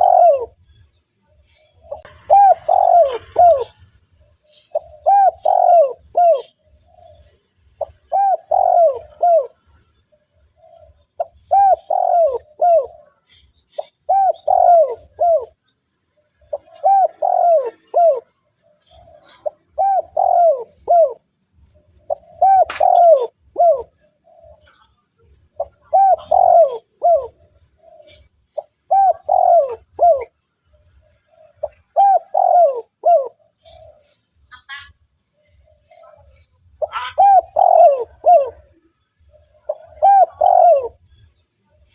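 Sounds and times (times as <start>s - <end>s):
dove cooing: 0.0s - 0.8s, 1.4s - 41.9s
small birds chirping: 0.0s - 41.9s.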